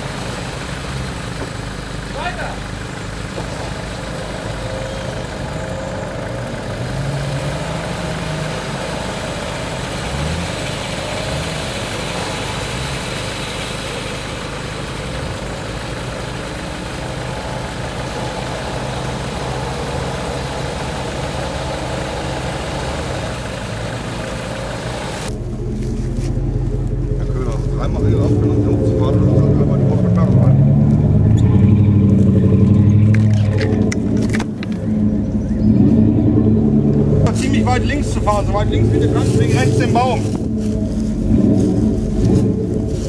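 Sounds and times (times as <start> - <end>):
engine running at low revs: 0.0 - 43.0.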